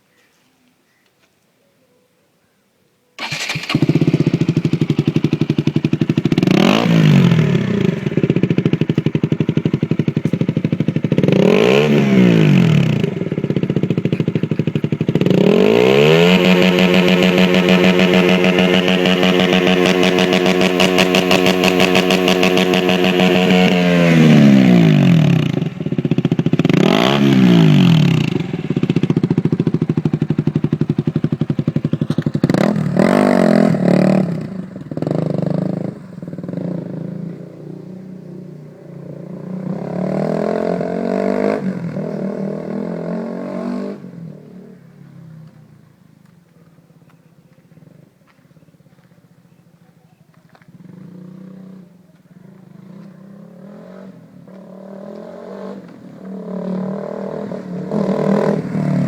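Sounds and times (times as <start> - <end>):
motorcycle engine revving: 3.2 - 45.8, 47.0 - 59.0.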